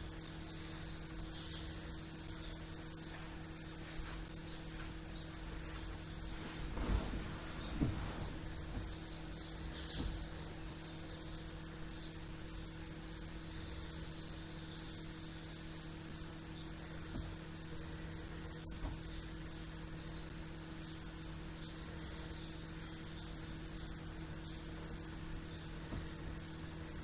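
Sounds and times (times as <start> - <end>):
small birds chirping: 0.0 - 17.8, 19.0 - 26.8
background hiss: 0.0 - 27.0
steady low hum: 0.0 - 27.0.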